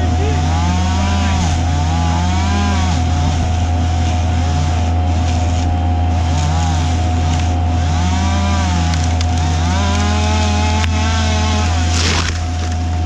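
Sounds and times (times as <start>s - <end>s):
engine revving up and down: 0.0s - 13.0s
machinery engines droning: 0.0s - 13.0s.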